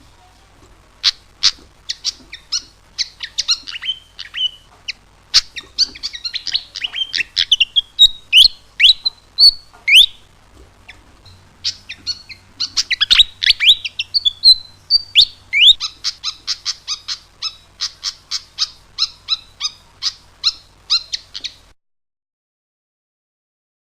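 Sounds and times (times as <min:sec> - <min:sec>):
flycatcher singing: 0:01.0 - 0:21.8.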